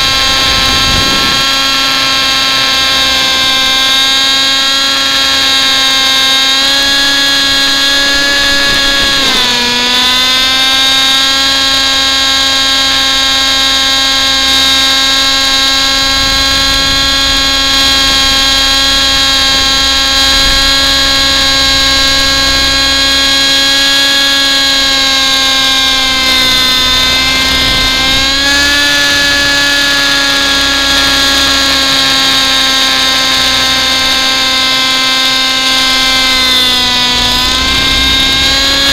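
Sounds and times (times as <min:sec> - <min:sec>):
rc helicopter engine and rotors: 0:00.0 - 0:38.9.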